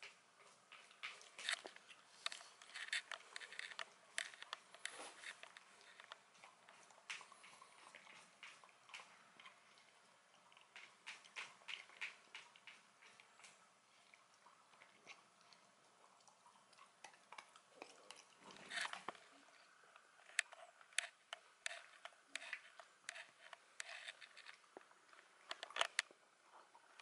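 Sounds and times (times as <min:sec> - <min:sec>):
dog chewing and crunching: 0:00.0 - 0:26.6.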